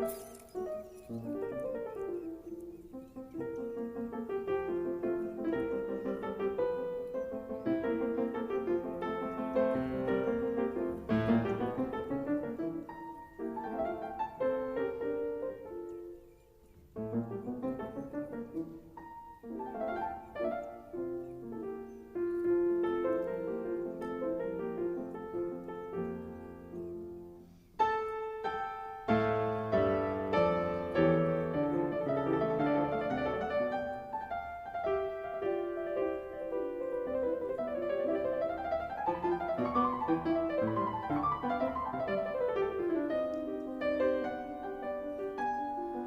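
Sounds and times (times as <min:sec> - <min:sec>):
piano music: 0:00.0 - 0:46.0.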